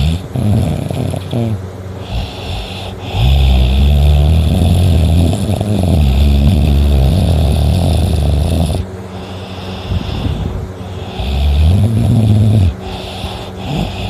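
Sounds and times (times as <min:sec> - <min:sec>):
person snoring: 0:00.0 - 0:14.0.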